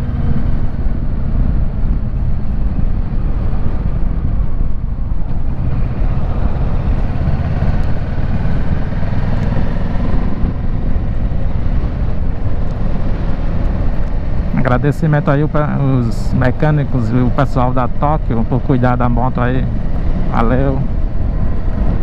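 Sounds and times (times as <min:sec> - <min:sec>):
wind rush over microphone: 0:00.0 - 0:22.0.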